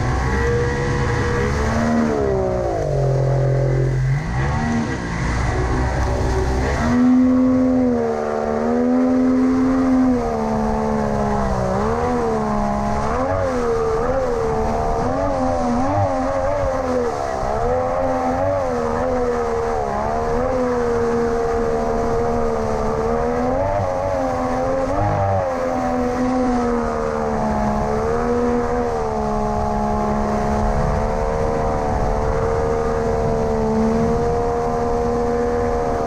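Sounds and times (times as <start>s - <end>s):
outboard jet motor revving: 0.0s - 36.0s.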